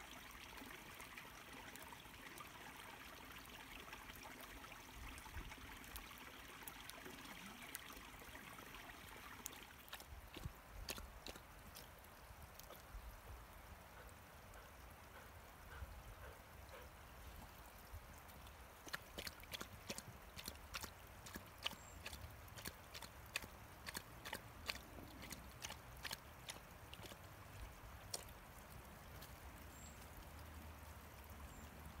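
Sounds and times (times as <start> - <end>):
stream trickling: 0.0 - 32.0.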